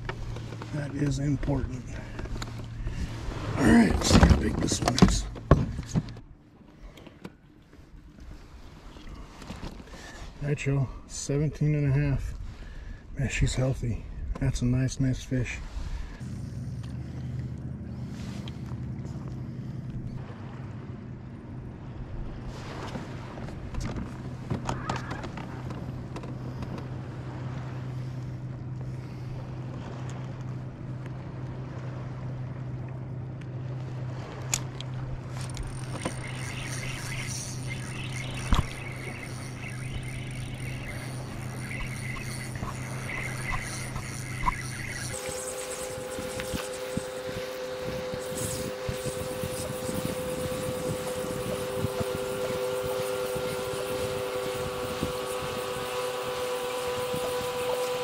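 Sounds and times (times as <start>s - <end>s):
low hum of kayak drive: 0.0s - 58.0s
water and wind noise: 0.0s - 58.0s.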